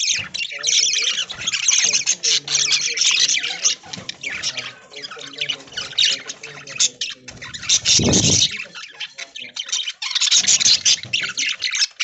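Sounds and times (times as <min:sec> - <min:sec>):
budgerigars chattering and squawking: 0:00.0 - 0:12.0.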